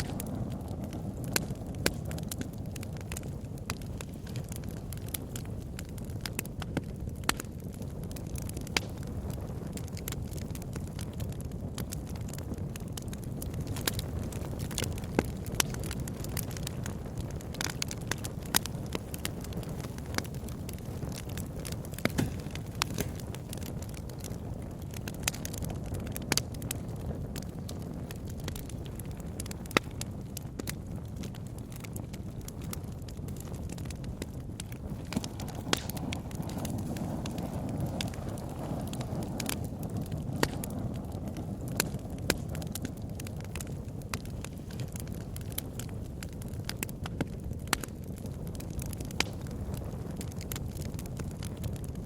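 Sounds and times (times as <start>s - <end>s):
bonfire crackling and popping: 0.0s - 52.0s
low fire roar: 0.0s - 52.0s.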